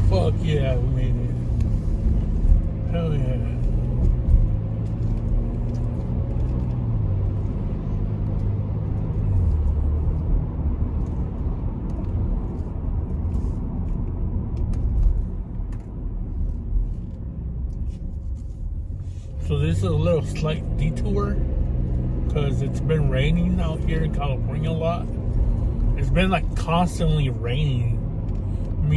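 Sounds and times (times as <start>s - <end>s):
car engine: 0.0s - 28.9s
road noise: 0.0s - 28.9s.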